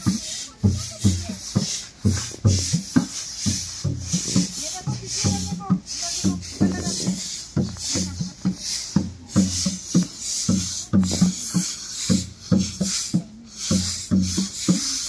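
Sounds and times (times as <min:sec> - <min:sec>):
barrel drum beaten by hand: 0:00.0 - 0:15.0
brooms sweeping a dusty path: 0:00.0 - 0:15.0.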